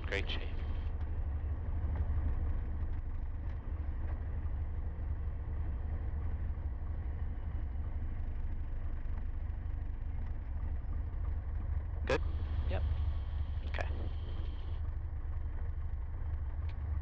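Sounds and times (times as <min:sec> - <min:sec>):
aircraft engine and propeller droning: 0:00.0 - 0:17.0.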